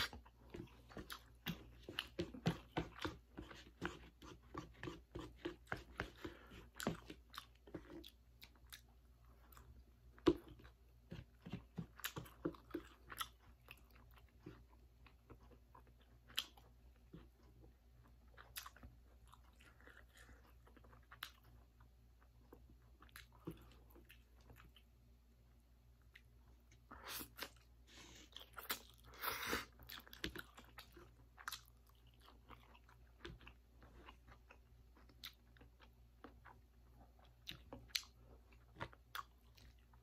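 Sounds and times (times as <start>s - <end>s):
person chewing noodles: 0.0s - 25.0s, 26.0s - 40.0s.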